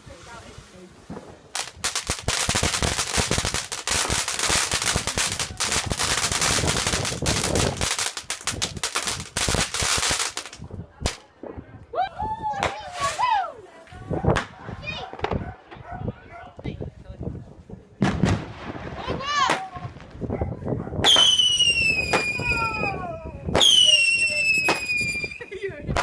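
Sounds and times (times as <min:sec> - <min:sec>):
fireworks cracking and banging: 0:00.0 - 0:11.9, 0:12.6 - 0:15.9, 0:17.6 - 0:26.0.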